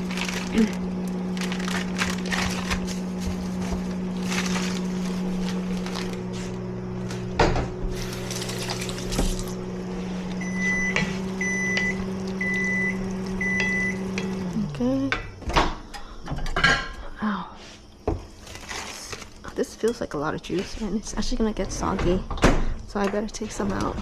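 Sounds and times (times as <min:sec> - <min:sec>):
kitchen appliance hum: 0:00.0 - 0:24.0.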